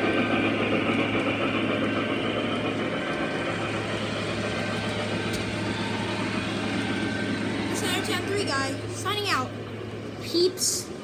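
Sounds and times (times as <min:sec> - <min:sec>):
model trains rumbling on track: 0:00.0 - 0:11.0.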